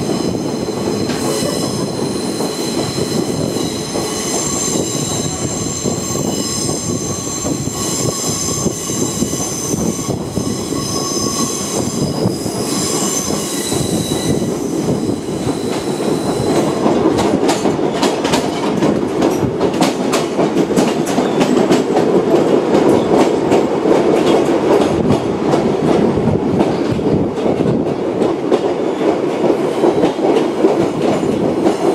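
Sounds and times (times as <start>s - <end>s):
train rolling rumble: 0.0s - 31.9s.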